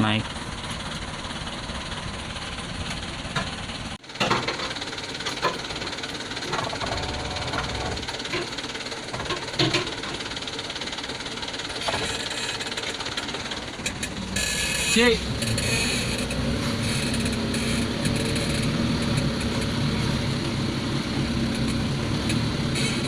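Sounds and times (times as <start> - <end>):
truck engine running: 0.0 - 23.0
truck knocks and clunks: 2.8 - 10.5, 11.6 - 23.0.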